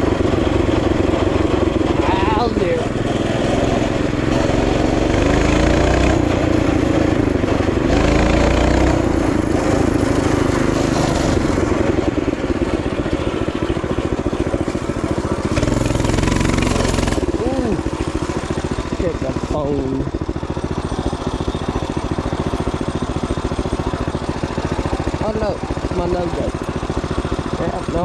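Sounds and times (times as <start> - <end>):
small motorbike engine running: 0.0 - 28.0.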